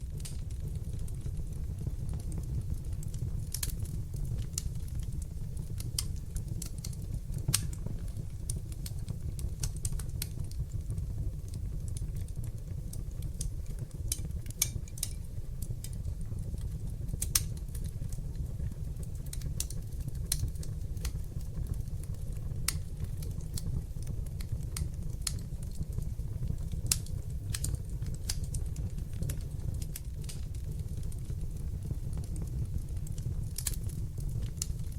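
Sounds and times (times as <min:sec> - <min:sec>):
fire crackling and popping: 0:00.0 - 0:34.9
low rumble of flames: 0:00.0 - 0:34.9.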